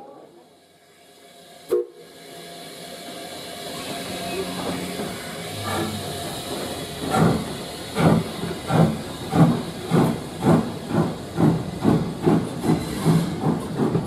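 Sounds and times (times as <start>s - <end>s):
steam hissing: 0.6s - 14.0s
steam locomotive exhaust chuffs: 0.6s - 14.0s.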